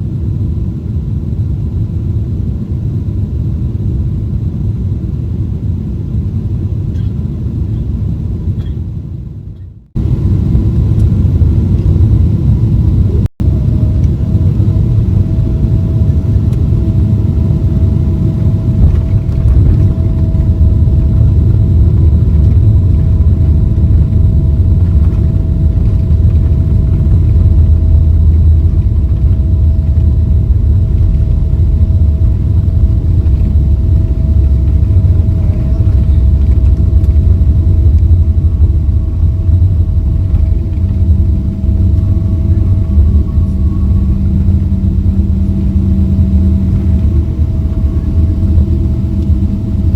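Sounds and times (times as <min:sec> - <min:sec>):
jet engine rumble in cabin: 0:00.0 - 0:49.9
steady hum: 0:00.0 - 0:49.9.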